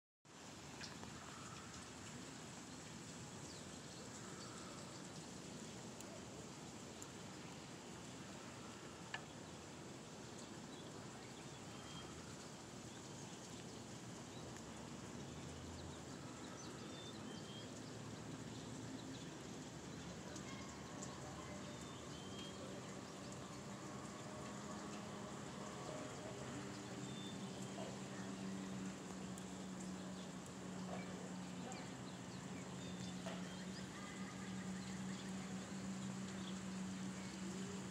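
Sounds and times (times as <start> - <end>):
steady low hiss: 0.3 - 37.9.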